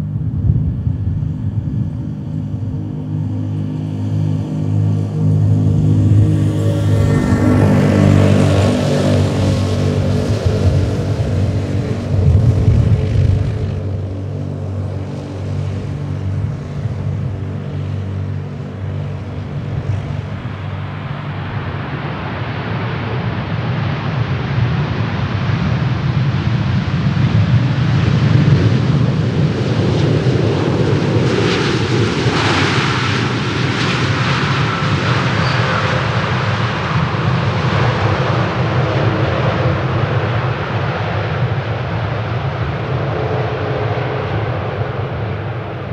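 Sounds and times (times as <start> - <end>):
jet airliner engines rumbling: 0.0 - 45.9.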